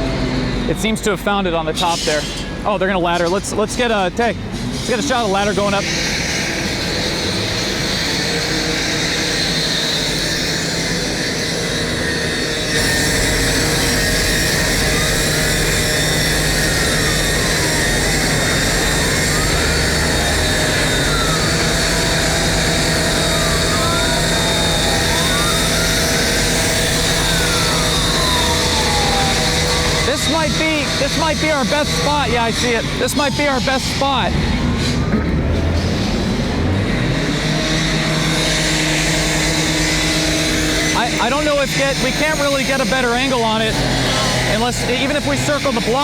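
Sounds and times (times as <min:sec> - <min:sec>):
fire truck engines droning: 0:00.0 - 0:46.0
siren wails: 0:05.0 - 0:46.0.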